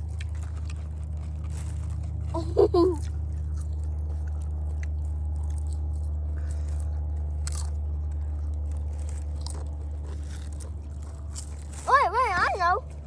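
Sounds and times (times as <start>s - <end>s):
person chewing food: 0.0s - 11.9s
faint crunches: 0.0s - 13.0s
steady low rumble: 0.0s - 13.0s.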